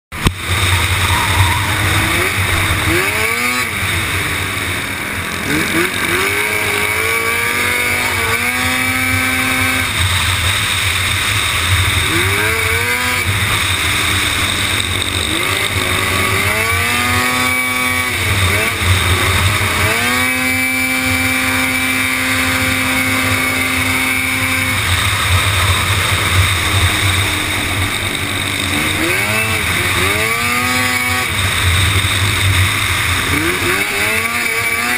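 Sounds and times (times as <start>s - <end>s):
quad engine revving: 0.2s - 34.9s.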